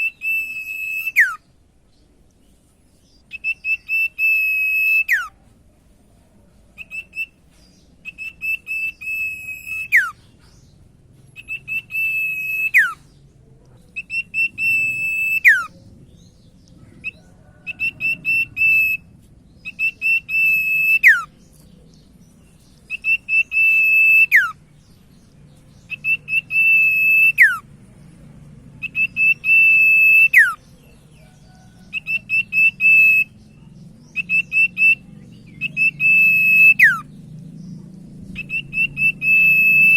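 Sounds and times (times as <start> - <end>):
bird singing whistled notes: 0.0 - 1.6, 3.0 - 5.4, 6.8 - 13.2, 13.9 - 28.0, 28.8 - 39.9.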